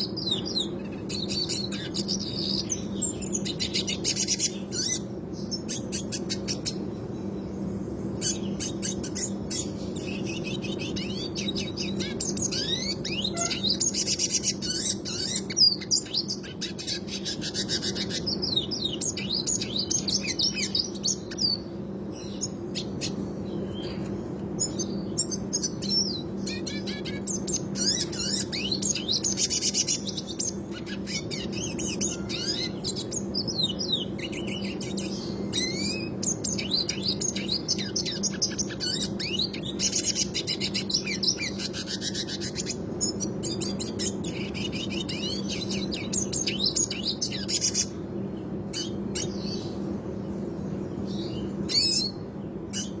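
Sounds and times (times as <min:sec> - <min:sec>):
bird singing twittering trills: 0:00.0 - 0:53.0.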